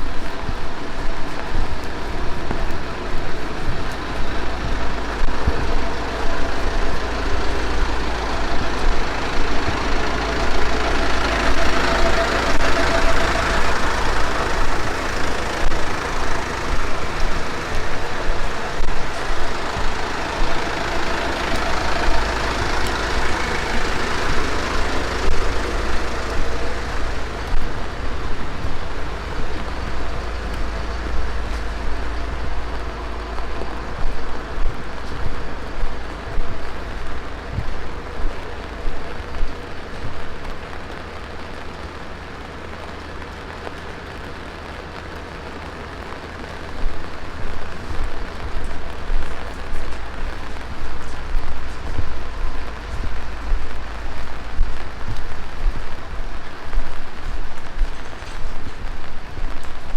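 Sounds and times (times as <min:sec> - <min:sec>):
heavy rain hiss: 0:00.0 - 0:59.9
low rumble: 0:00.0 - 0:59.9.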